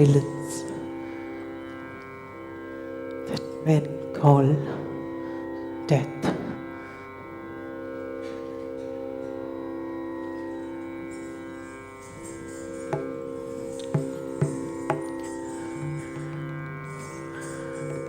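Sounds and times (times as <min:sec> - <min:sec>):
instrumental drone of held notes: 0:00.0 - 0:18.0.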